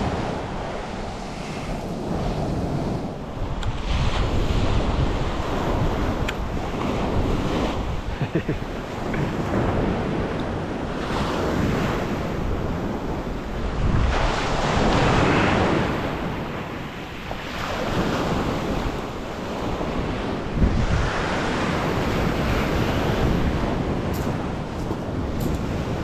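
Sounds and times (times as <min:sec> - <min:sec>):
waves washing onto beach: 0:00.0 - 0:26.0
wind rumbling on microphone: 0:00.0 - 0:26.0.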